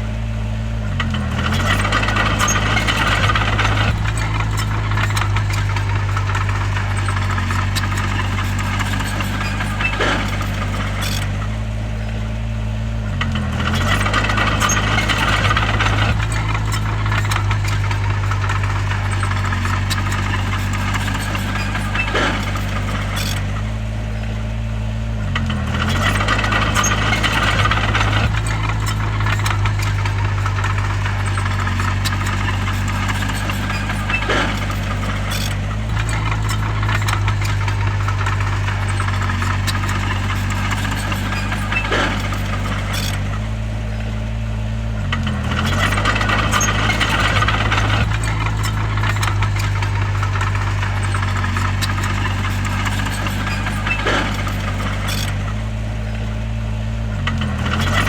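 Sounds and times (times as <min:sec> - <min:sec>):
bulldozer diesel engine: 0:00.0 - 0:58.0
rattling tracks: 0:00.0 - 0:58.0.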